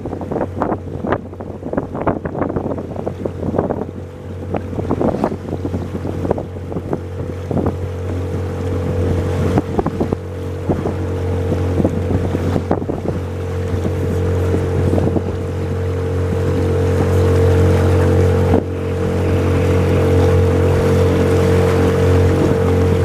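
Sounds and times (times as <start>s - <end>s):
boat motor humming: 0.0s - 23.0s
water splashing against hull: 0.0s - 23.0s
wind buffeting microphone: 0.0s - 23.0s.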